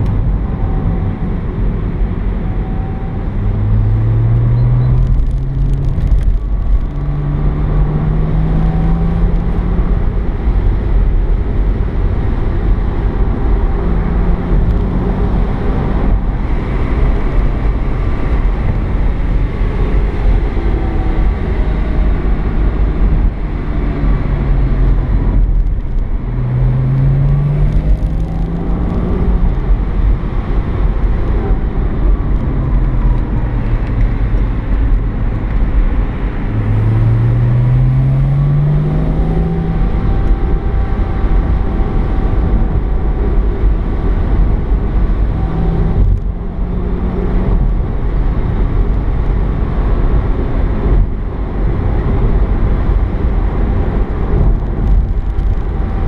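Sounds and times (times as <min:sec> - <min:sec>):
car engine while driving: 0:00.0 - 0:56.0
road noise rumble: 0:00.0 - 0:56.0.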